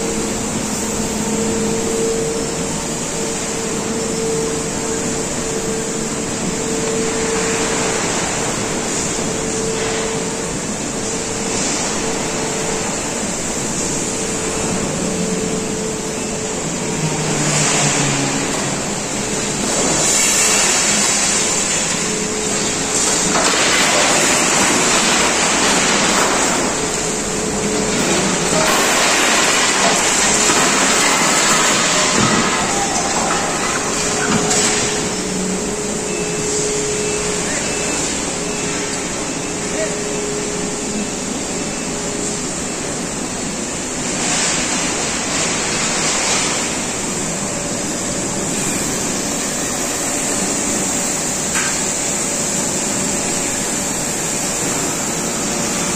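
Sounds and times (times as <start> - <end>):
continuous industrial noise: 0.0 - 55.9
steady machine hum: 0.0 - 55.9.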